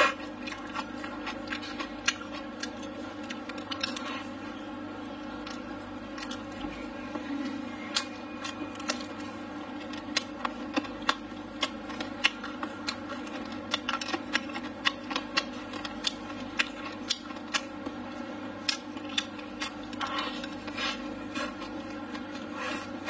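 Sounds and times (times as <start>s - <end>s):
close chewing with mouth clicks: 0.0s - 4.4s, 5.2s - 23.0s
steady low hum: 0.0s - 23.0s.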